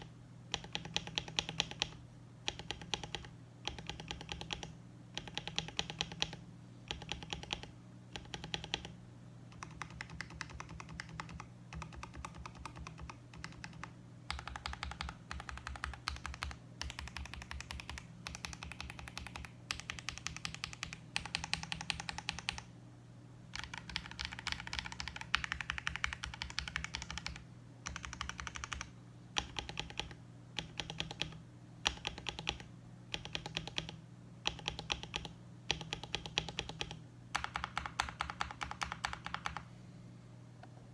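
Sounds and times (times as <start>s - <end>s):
typing on mechanical keyboard: 0.0s - 22.7s, 23.5s - 39.7s.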